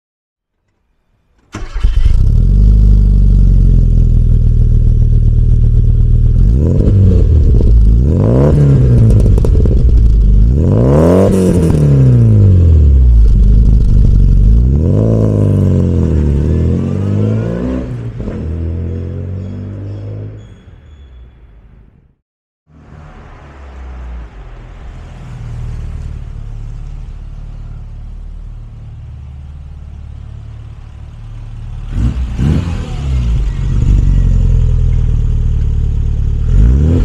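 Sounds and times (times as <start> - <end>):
car engine idling and revving: 1.5 - 20.4, 22.7 - 37.0.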